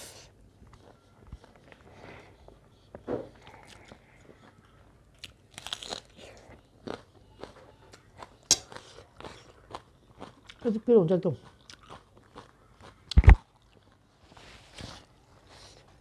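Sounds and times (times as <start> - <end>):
chewing noodles: 0.4 - 15.8.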